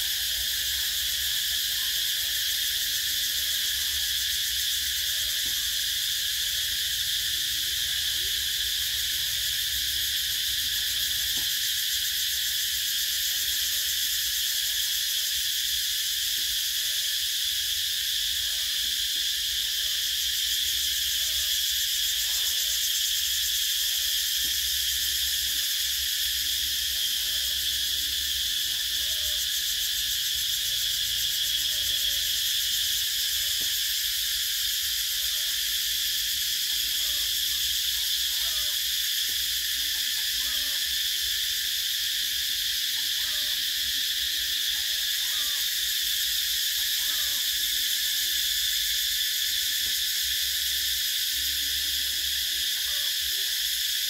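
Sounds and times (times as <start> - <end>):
cicadas singing: 0.0 - 54.0.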